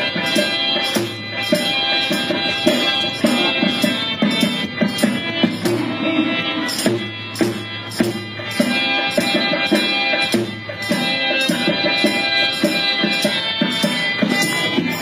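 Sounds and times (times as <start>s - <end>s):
music with beating drum: 0.0s - 15.0s.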